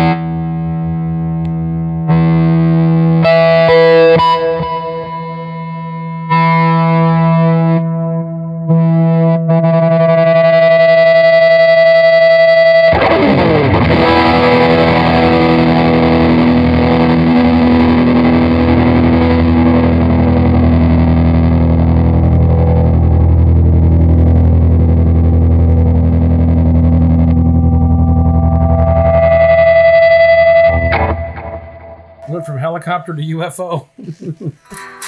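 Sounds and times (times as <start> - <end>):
electric guitar with tremolo: 0.0 - 33.1, 34.0 - 35.0.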